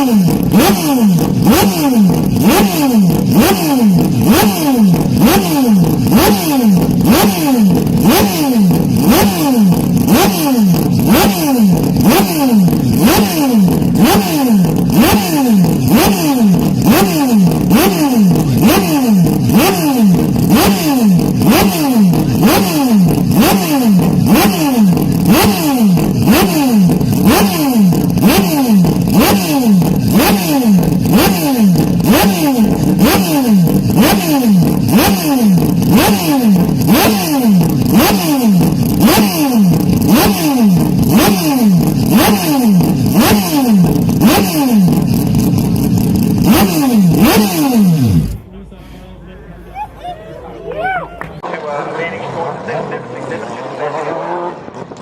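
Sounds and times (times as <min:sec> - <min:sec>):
distorted racing engine revving: 0:00.0 - 0:48.5, 0:51.4 - 0:55.0.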